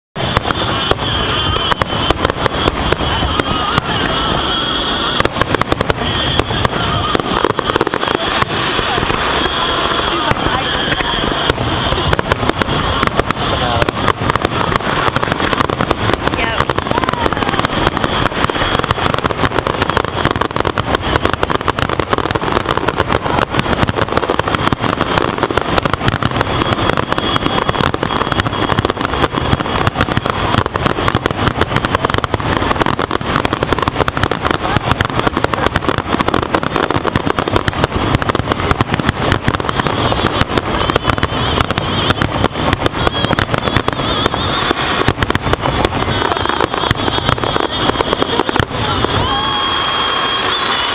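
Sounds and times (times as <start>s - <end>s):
fireworks shells bursting: 0.2s - 50.9s.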